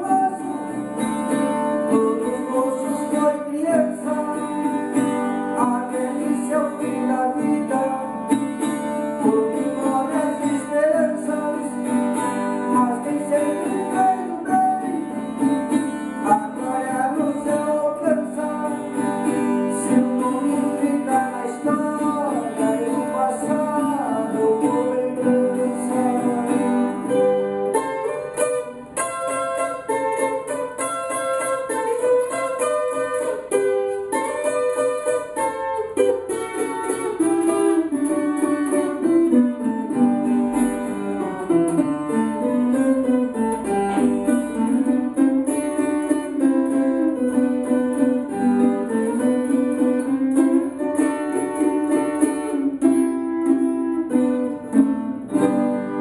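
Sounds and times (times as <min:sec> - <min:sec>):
acoustic guitar melody: 0:00.0 - 0:56.0.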